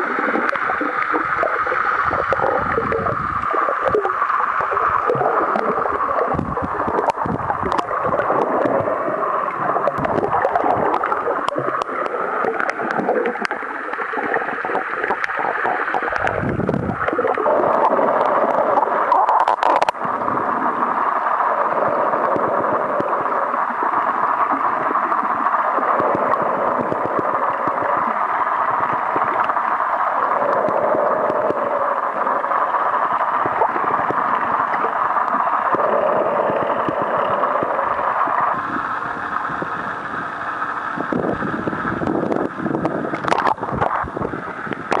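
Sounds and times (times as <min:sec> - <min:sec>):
crackles: 0:00.0 - 0:45.0
muffled underwater rush: 0:00.0 - 0:45.0.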